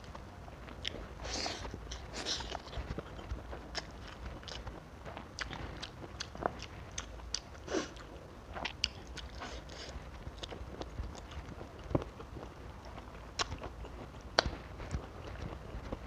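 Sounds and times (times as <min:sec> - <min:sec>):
chewing and biting food: 0:00.1 - 0:16.0.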